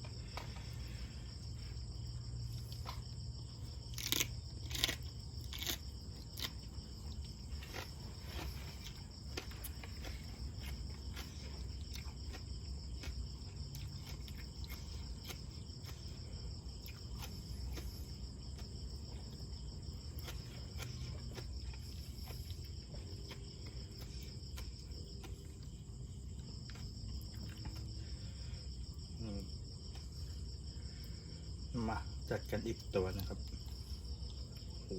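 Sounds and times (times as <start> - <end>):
person eating crunches: 0.0 - 31.2
high insect trill: 0.0 - 34.9.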